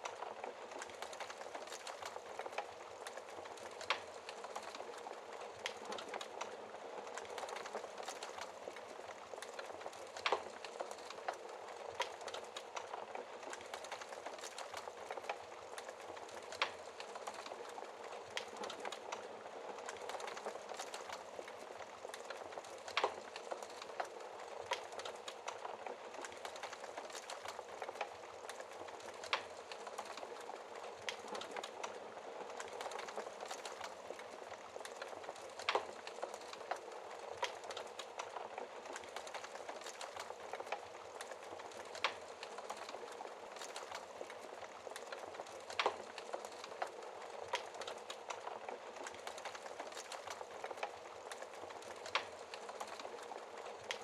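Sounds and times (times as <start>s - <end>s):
wood fire crackling: 0.0s - 54.0s
fire snap: 0.1s - 54.0s.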